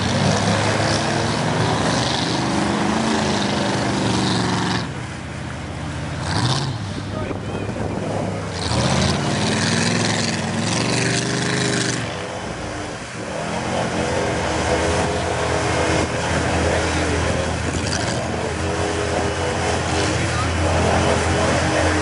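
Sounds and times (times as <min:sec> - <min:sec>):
truck engine revving hard: 0:00.0 - 0:22.0
wheels spinning spraying mud: 0:00.0 - 0:22.0.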